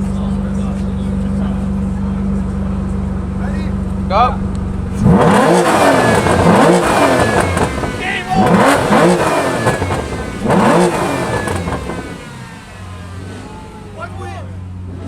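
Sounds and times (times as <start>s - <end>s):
sports car engine revving: 0.0s - 15.0s.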